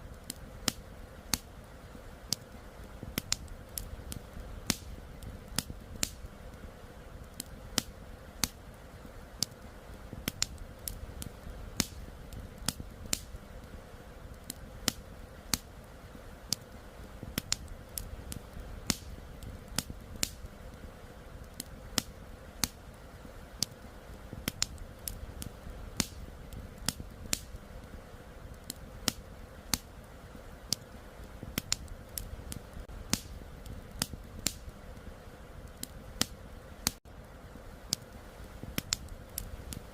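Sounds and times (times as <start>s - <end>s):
campfire crackling and popping: 0.0s - 39.9s
low steady rumble: 0.0s - 39.9s.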